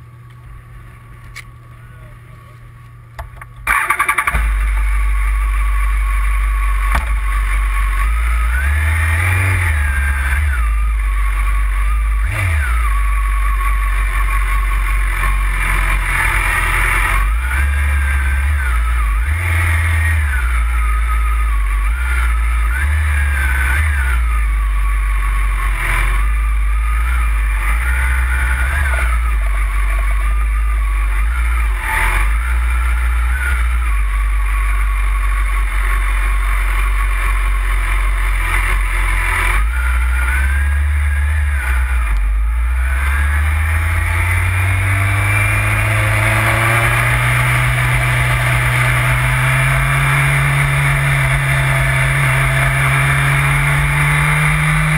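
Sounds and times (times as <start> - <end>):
motorcycle engine revving: 0.8 - 54.9.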